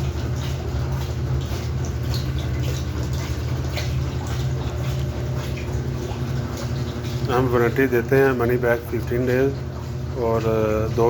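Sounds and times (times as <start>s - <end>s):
washing machine spinning: 0.0s - 11.0s
water swishing in drum: 0.0s - 11.0s.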